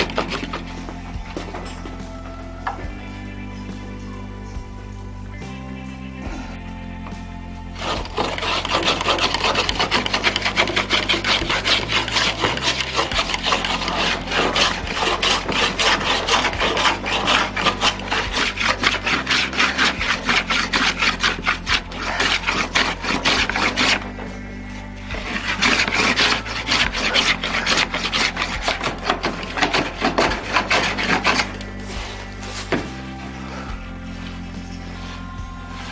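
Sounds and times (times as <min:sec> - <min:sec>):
hand plane shaving wood: 0:00.0 - 0:03.0, 0:07.8 - 0:35.9.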